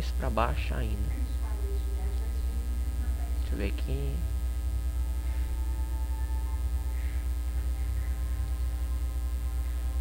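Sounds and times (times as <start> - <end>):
faint steady higher tones: 0.0 - 10.0
mains hum: 0.0 - 10.0.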